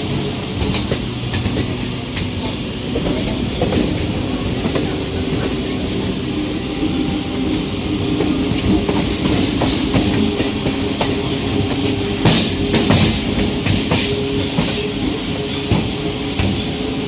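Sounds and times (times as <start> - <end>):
electric train humming: 0.0 - 17.0
wheels clacking over rail joints: 0.0 - 17.0.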